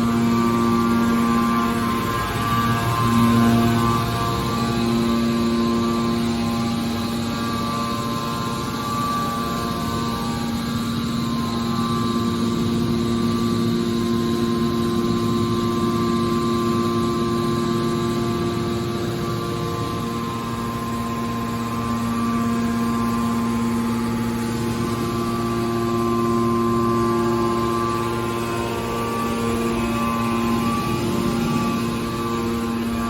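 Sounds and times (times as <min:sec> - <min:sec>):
hydraulic baler motor and pump hum: 0:00.0 - 0:33.0.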